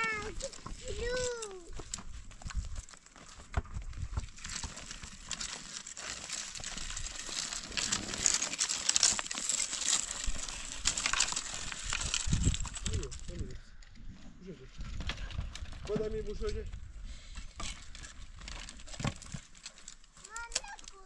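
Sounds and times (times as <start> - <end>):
branches scraping over rocks: 0.0 - 21.0
footsteps on loose stones: 0.0 - 21.0.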